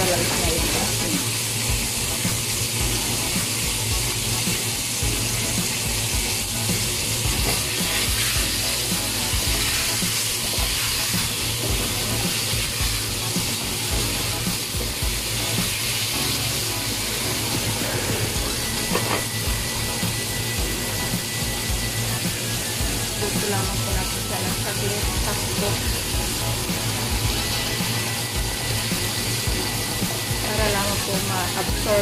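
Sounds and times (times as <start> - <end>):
background music: 0.0 - 32.0
food sizzling in oil: 0.0 - 32.0.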